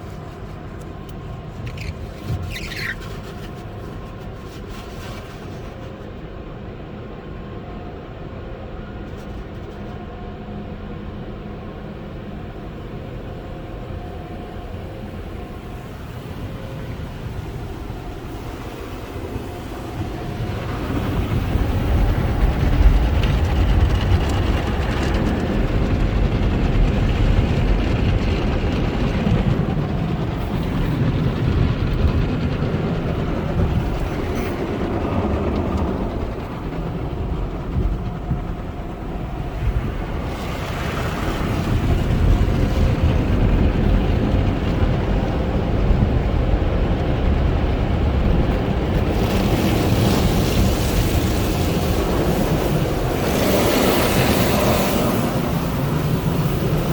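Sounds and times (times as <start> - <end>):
car wash equipment rumbling: 0.0 - 6.8, 12.1 - 56.9.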